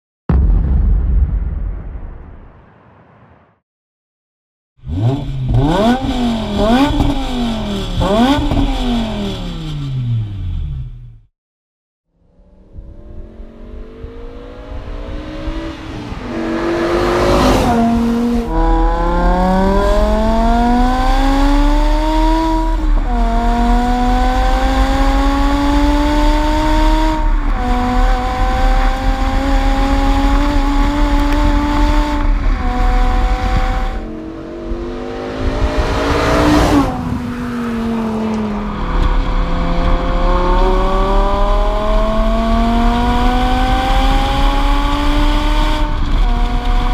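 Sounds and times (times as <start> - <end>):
car engine accelerating hard: 4.8 - 11.2, 12.5 - 46.9.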